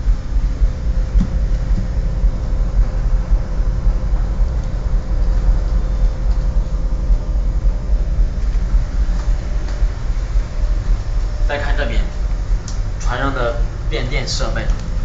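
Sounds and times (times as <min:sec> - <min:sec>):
boat engines rumbling: 0:00.0 - 0:15.0
faint steady hum: 0:00.0 - 0:15.0.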